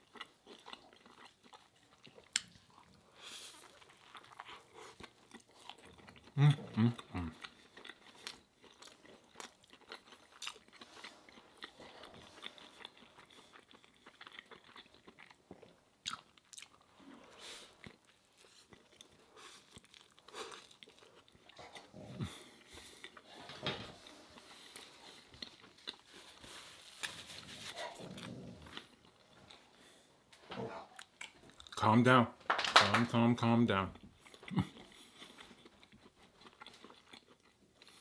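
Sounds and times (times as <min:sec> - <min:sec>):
person biting and chewing bread: 0:00.0 - 0:23.3, 0:24.0 - 0:29.9, 0:34.2 - 0:38.0.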